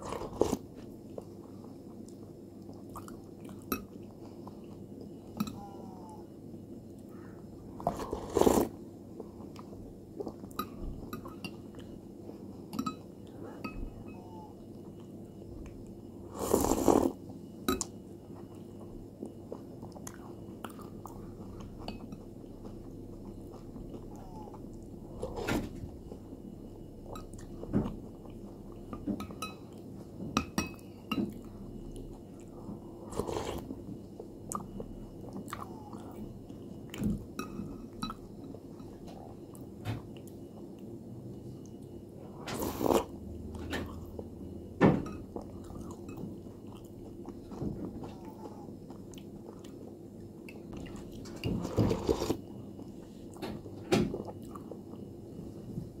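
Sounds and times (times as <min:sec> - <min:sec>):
person chewing cereal: 0:00.0 - 0:06.3, 0:06.9 - 0:29.9, 0:30.8 - 0:41.8, 0:42.6 - 0:43.2, 0:45.3 - 0:55.2.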